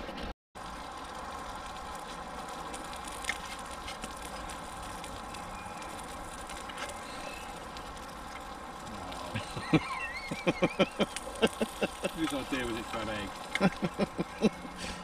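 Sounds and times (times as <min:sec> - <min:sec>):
campfire crackles and pops: 0:00.0 - 0:15.0
egg sizzling in a frying pan: 0:00.6 - 0:15.0.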